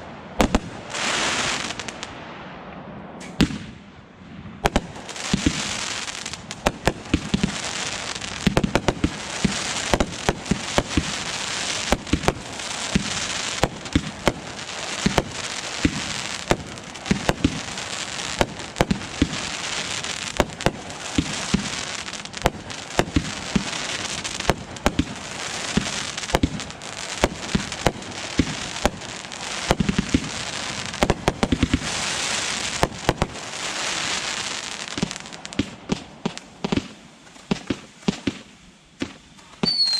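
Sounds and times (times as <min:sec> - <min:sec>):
fireworks crackling hiss: 0:00.0 - 0:02.5, 0:03.2 - 0:03.9, 0:04.6 - 0:39.9
fireworks bursts and bangs: 0:00.4 - 0:02.2, 0:03.2 - 0:03.8, 0:04.5 - 0:39.9.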